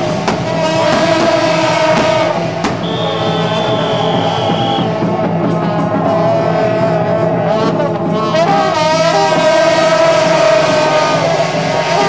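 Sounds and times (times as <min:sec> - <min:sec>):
brass horns blaring held notes: 0:00.0 - 0:12.0
dense band playing: 0:00.0 - 0:12.0
percussion strokes: 0:00.0 - 0:12.0.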